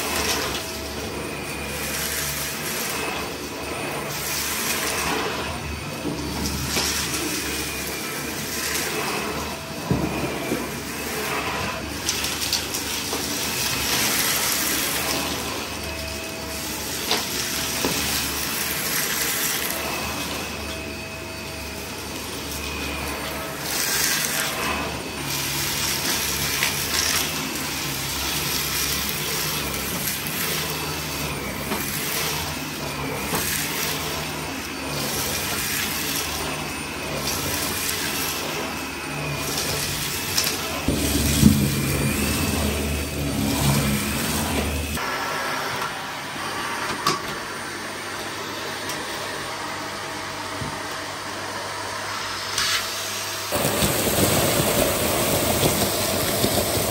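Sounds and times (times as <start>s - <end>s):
debris rattling in vacuum: 0.0s - 45.0s, 52.5s - 56.9s
vacuum cleaner running: 0.0s - 56.9s.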